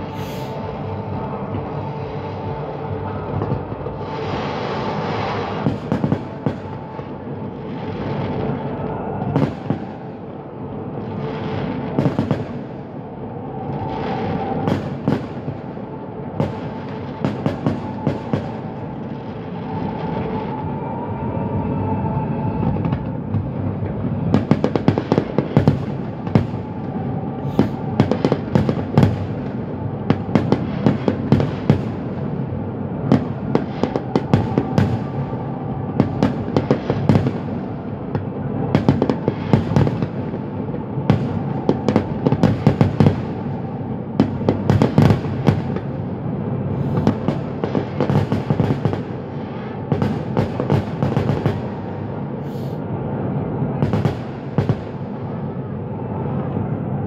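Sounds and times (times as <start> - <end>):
fireworks bangs and crackling: 0.0 - 21.6, 22.4 - 52.8, 53.5 - 55.6.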